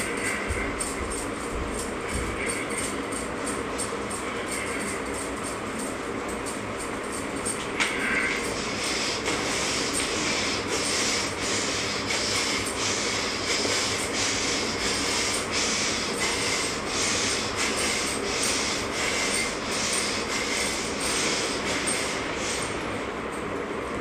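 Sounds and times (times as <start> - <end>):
rhythmic swishing of sleeves: 0.0 - 23.8.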